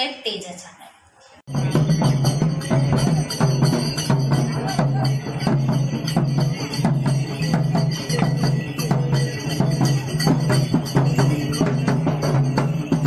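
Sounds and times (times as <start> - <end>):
drums beaten in fast rhythm: 1.5 - 13.0.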